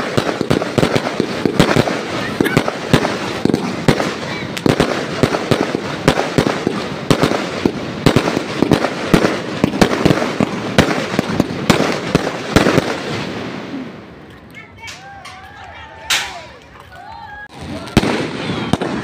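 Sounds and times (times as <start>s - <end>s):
continuous noisy crackle: 0.0s - 12.6s, 13.9s - 19.0s
fireworks banging: 0.0s - 16.8s, 17.4s - 19.0s.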